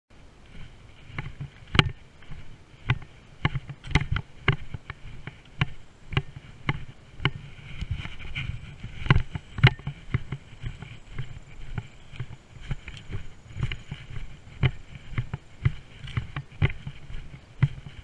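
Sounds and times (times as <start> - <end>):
footsteps on asphalt: 0.2 - 18.0.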